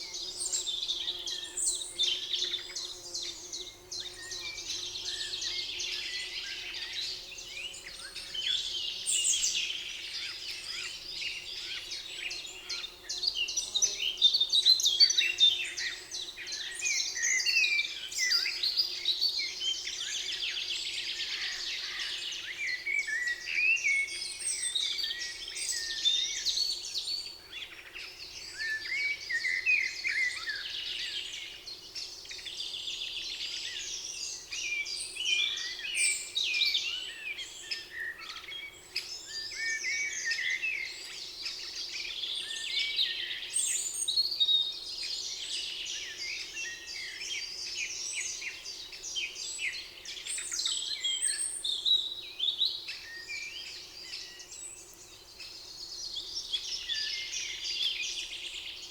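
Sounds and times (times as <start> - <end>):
songbirds singing and chirping: 0.0 - 58.9.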